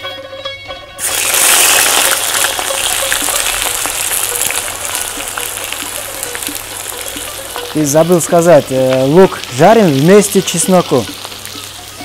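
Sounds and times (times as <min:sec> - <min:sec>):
onion sizzling in hot oil: 0:01.0 - 0:12.0.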